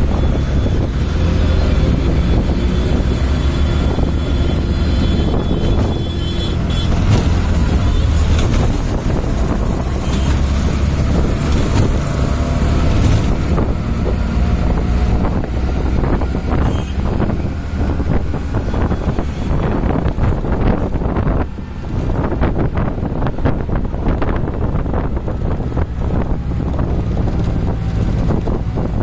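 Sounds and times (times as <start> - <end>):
auto rickshaw engine running: 0.0 - 29.0
wind buffeting microphone: 0.0 - 29.0.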